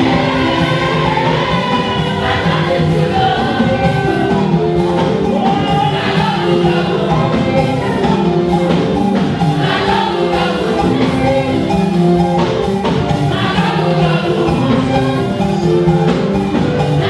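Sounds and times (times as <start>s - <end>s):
choir singing gospel: 0.0s - 17.0s.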